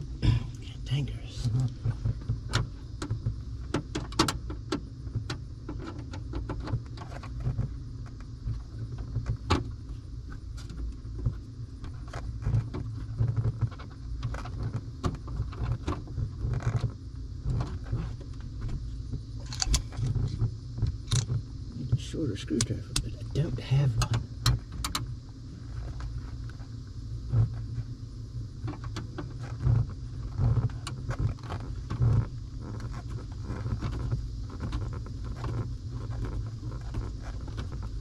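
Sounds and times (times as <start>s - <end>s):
low steady rumble: 0.0s - 38.0s.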